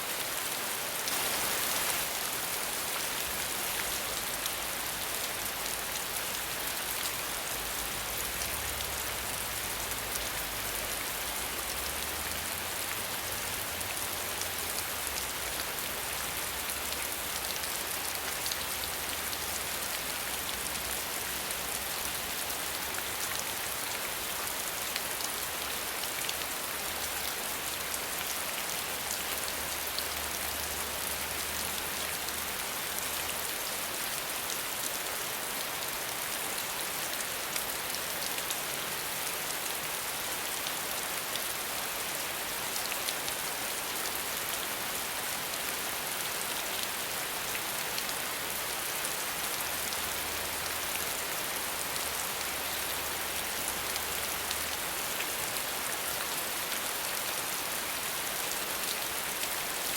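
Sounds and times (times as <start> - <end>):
rain pattering: 0.1 - 59.9.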